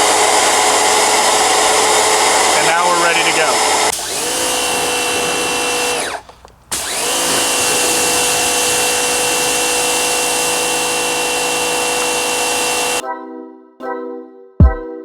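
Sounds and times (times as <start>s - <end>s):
pressure washer motor whining: 0.0s - 13.0s.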